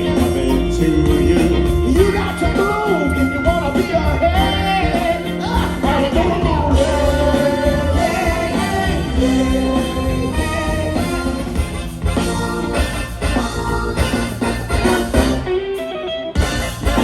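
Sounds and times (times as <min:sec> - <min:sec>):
lead vocals: 0:00.0 - 0:15.2
funk band playing: 0:00.0 - 0:17.0.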